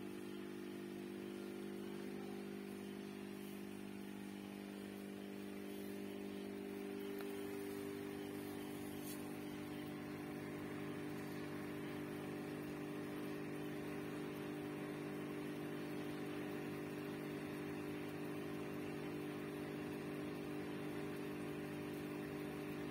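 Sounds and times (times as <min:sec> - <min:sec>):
aquarium pump humming: 0:00.0 - 0:22.9.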